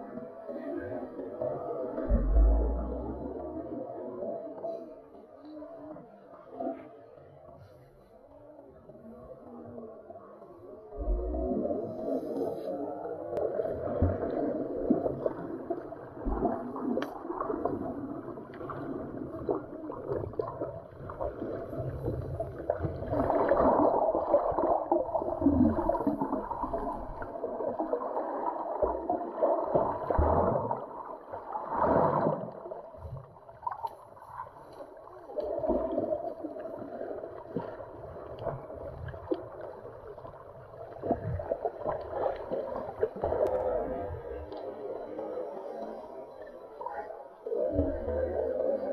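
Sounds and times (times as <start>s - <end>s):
water surging over pebbles underwater: 0.0s - 48.9s.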